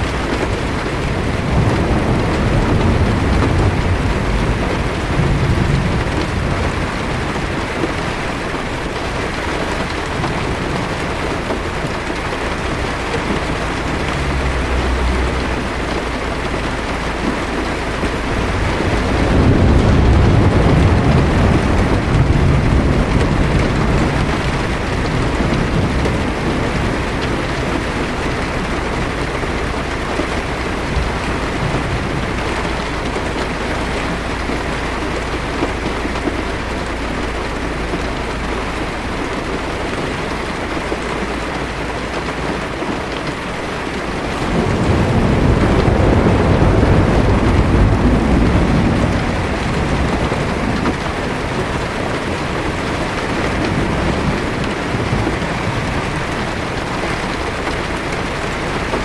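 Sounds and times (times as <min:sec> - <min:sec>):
heavy rain on car roof: 0:00.0 - 0:59.0
thunder rumbling: 0:00.0 - 0:59.0.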